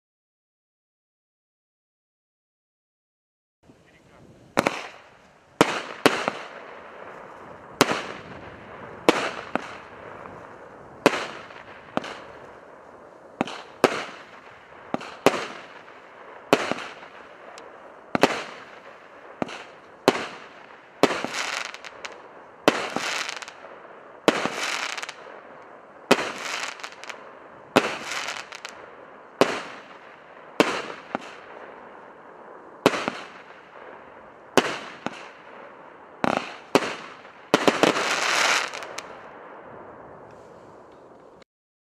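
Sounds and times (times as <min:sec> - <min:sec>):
firework bangs: 0:04.5 - 0:40.2.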